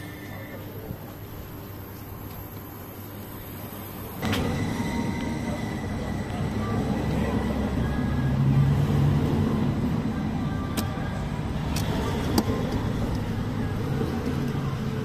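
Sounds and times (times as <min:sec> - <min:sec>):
vehicle engine rumbling: 0:01.2 - 0:15.0.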